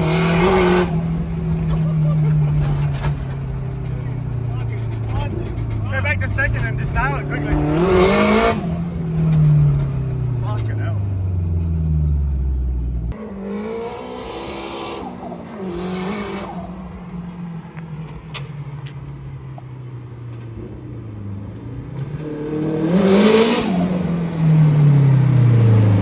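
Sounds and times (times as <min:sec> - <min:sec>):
turbo engine revving: 0:00.0 - 0:19.5, 0:20.3 - 0:26.0
car engine revving: 0:00.0 - 0:26.0.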